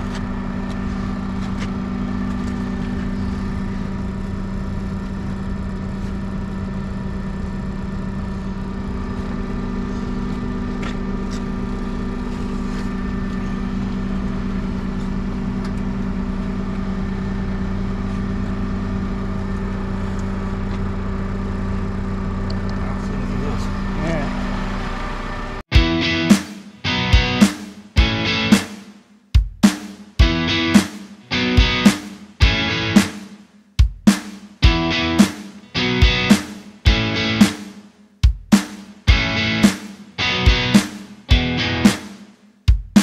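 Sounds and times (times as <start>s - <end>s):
engine running steadily: 0.0s - 27.4s, 28.0s - 28.6s, 30.2s - 33.1s, 34.6s - 37.5s, 39.1s - 42.0s.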